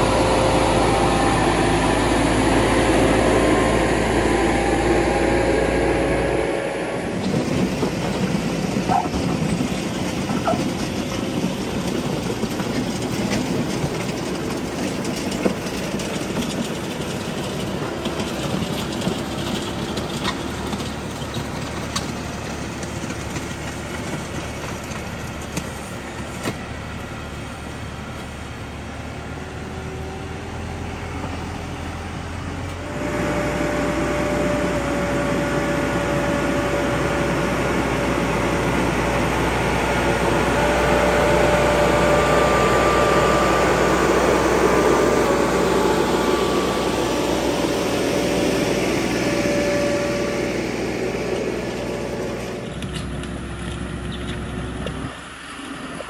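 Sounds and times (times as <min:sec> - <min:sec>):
steady engine whine: 0:00.0 - 0:56.0
tractor diesel engine running: 0:00.0 - 0:56.0.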